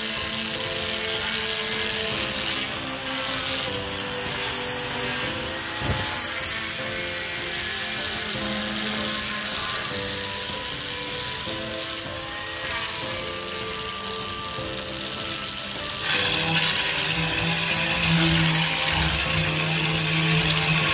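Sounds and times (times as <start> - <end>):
angle grinder sanding wood: 0.0 - 20.9
background music: 0.0 - 20.9.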